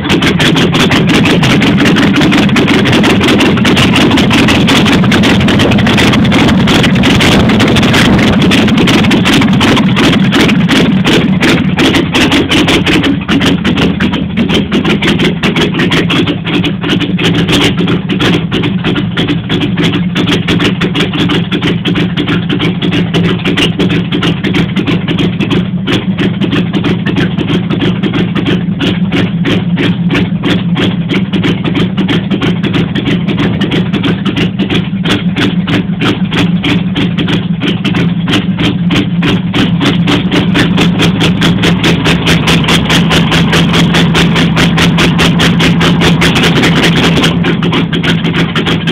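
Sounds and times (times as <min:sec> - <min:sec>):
car engine idling loudly: 0:00.0 - 0:48.9.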